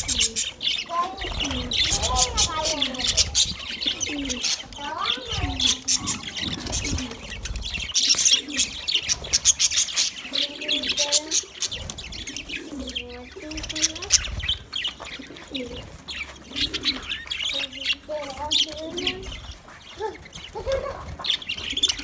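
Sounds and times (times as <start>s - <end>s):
budgerigars chirping and chattering: 0.0s - 22.0s.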